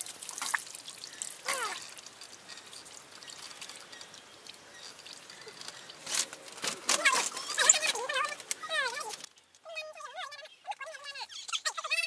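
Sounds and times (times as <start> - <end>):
water trickling and dripping: 0.0 - 9.7.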